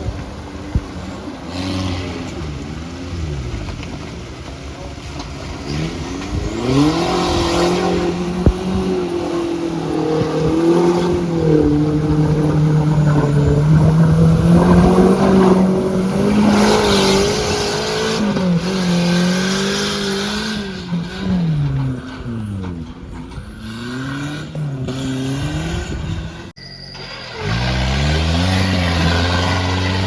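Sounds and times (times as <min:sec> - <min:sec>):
engine revving under load: 0:00.0 - 0:26.6, 0:27.2 - 0:30.0.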